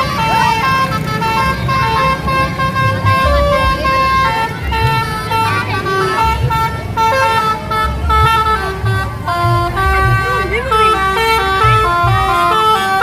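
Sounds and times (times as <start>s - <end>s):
bus horns playing a tune: 0.0s - 13.0s.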